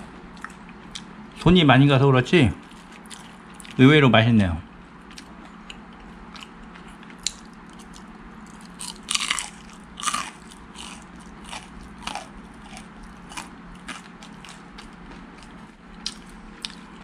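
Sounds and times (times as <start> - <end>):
crunchy chewing: 0.0 - 1.2, 2.6 - 3.8, 4.9 - 17.0.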